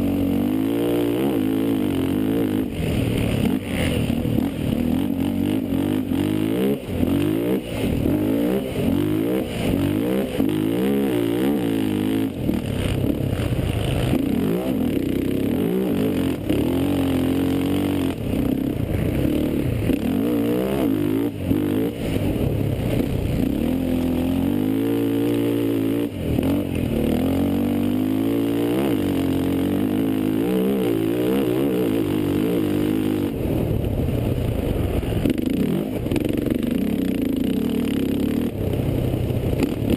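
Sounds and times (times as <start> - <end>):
quad engine revving: 0.0 - 33.9, 34.9 - 39.9.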